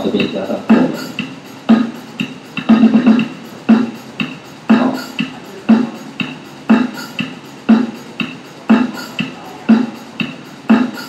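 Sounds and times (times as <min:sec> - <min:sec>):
rock drum loop: 0:00.0 - 0:11.0.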